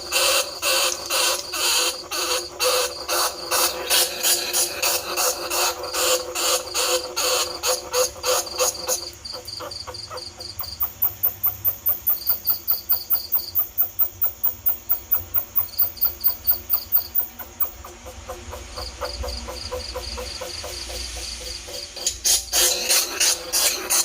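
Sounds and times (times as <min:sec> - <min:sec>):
ticking chirps: 0:00.0 - 0:24.0
rat squeaking chirps: 0:00.1 - 0:20.9.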